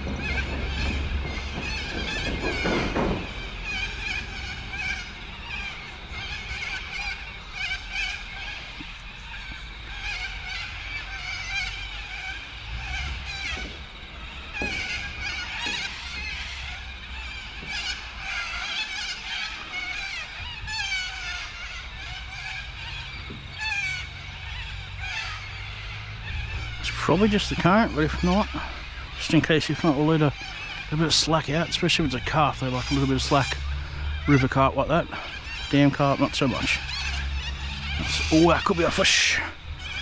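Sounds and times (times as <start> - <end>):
insects buzzing and chirping: 0.0 - 40.0.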